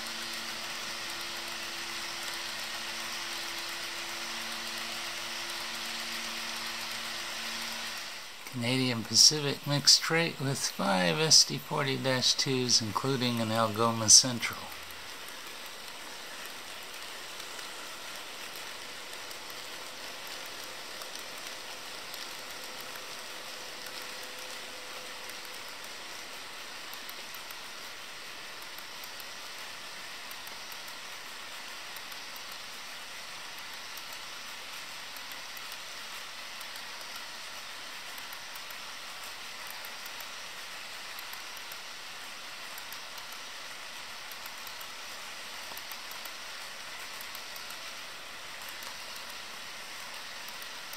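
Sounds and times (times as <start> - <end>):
faint rapid ticking: 0.0 - 50.9
model train wheels hissing: 0.0 - 50.9.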